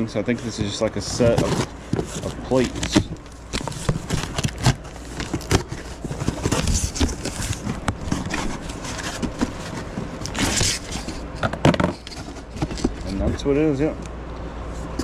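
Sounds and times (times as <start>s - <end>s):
cardboard flaps scraping: 0.4s - 13.4s.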